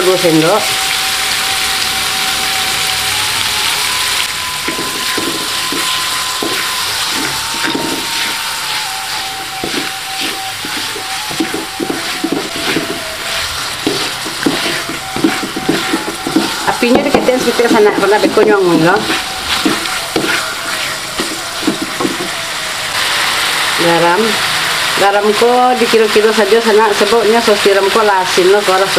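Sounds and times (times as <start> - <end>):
food sizzling in a wok: 0.0 - 28.9
spatula scraping wok: 4.0 - 28.2.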